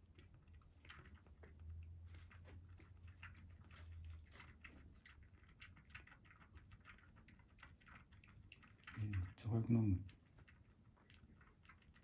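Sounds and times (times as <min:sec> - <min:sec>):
kitten suckling from bottle: 0:00.0 - 0:12.0.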